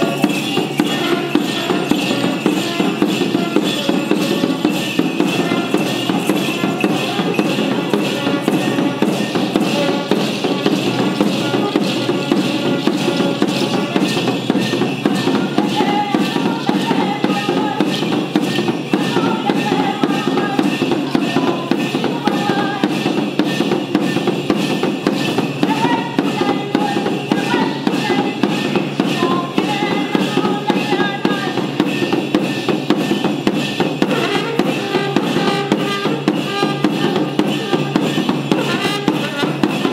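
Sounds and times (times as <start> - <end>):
drum beaten in quick rhythm: 0.0 - 39.9.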